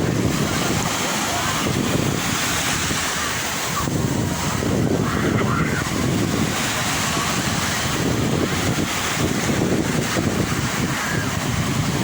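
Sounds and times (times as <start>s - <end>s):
waves washing on shore: 0.0s - 12.0s
wind buffeting microphone: 0.0s - 12.0s.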